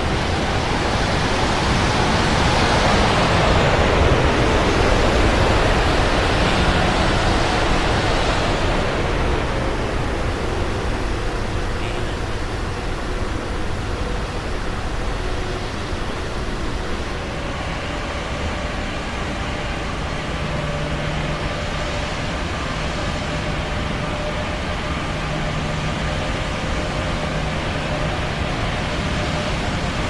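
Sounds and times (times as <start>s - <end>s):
airplane engines and airflow rushing: 0.0s - 30.0s
faint steady hums: 0.0s - 30.0s.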